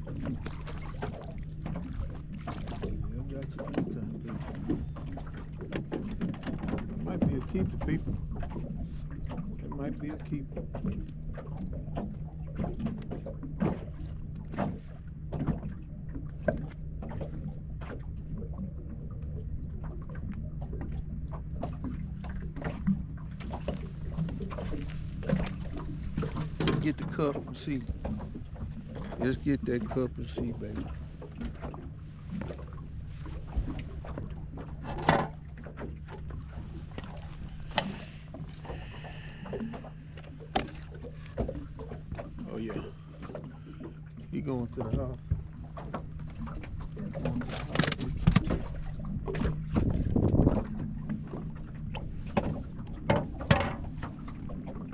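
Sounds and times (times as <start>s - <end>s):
knocks and taps in boat: 0.0s - 54.9s
steady low hum: 0.0s - 54.9s.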